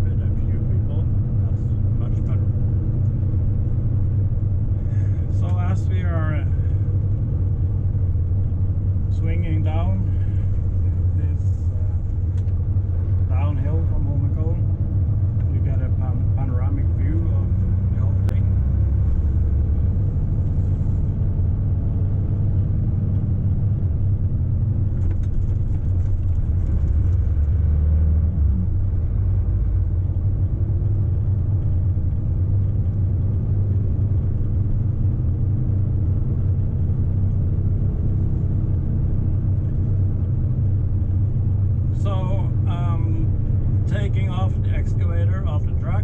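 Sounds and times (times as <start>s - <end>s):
truck diesel engine rumbling: 0.0s - 46.0s.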